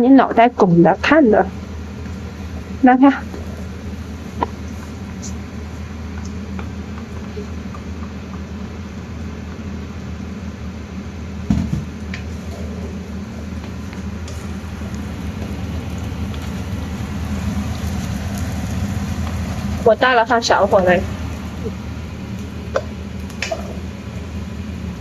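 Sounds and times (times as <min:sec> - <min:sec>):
low hum of gas stove: 0:00.0 - 0:25.0
food stir-frying in a wok: 0:01.5 - 0:09.0, 0:11.6 - 0:25.0.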